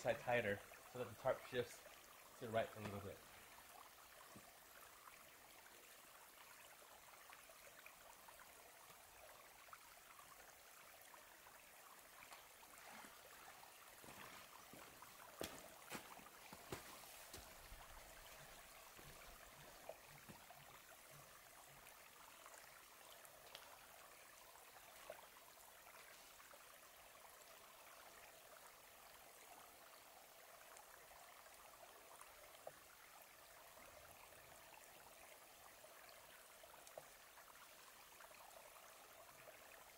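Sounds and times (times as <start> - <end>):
faint outdoor hiss: 0.0 - 39.9.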